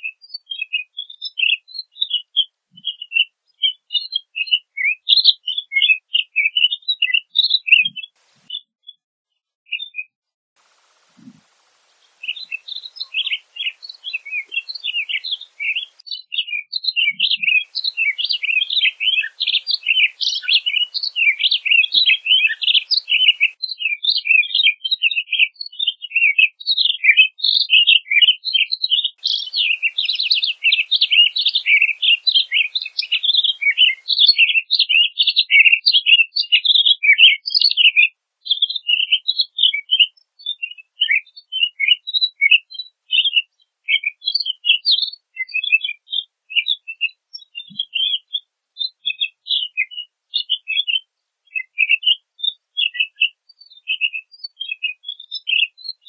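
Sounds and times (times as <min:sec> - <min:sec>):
bird singing warbled chirps: 0:00.0 - 0:09.0, 0:09.7 - 0:56.0.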